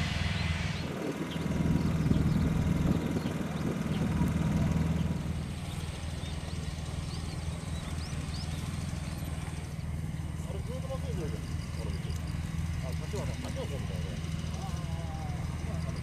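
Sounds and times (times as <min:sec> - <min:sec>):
propeller engines humming: 0:00.0 - 0:16.0.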